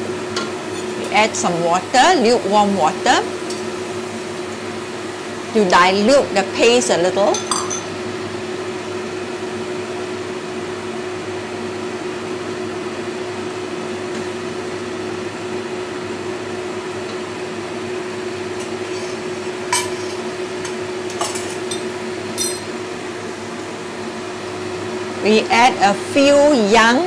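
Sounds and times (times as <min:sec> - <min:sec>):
steady hum: 0:00.0 - 0:11.3, 0:13.7 - 0:27.0.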